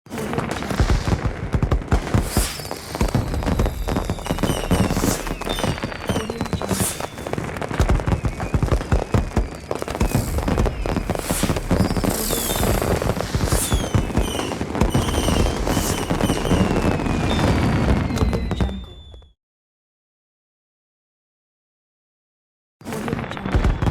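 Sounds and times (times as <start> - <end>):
firework bangs and crackling: 0.1 - 19.3, 22.9 - 23.9
whistling rockets: 0.1 - 19.4.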